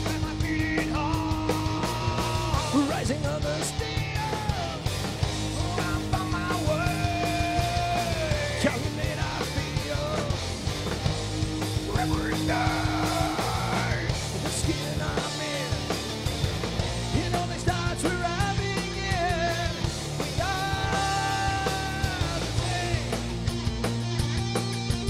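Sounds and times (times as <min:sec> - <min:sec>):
bending lead guitar notes: 0:00.0 - 0:25.0
drum hits: 0:00.0 - 0:25.0
metal band playing live: 0:00.0 - 0:25.0.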